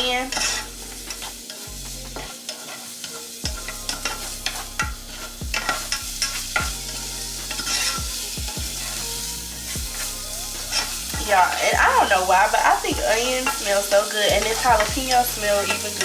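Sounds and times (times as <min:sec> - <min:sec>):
onion sizzling in hot oil: 0:00.0 - 0:16.0
utensil scraping and knocking pot: 0:00.0 - 0:16.0.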